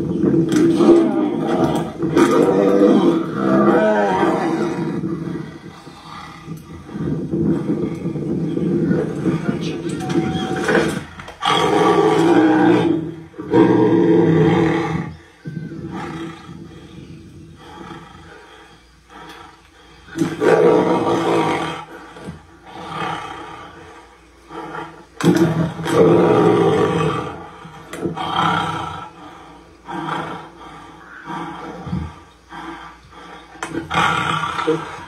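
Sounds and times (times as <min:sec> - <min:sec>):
tigers roaring: 0:00.0 - 0:35.0.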